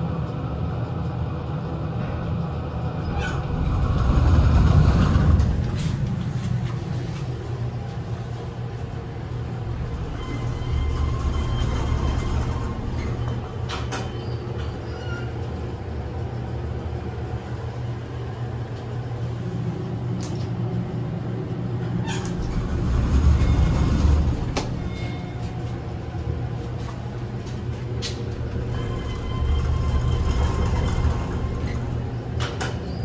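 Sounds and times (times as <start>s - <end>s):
elevator drive humming: 0.0s - 33.0s.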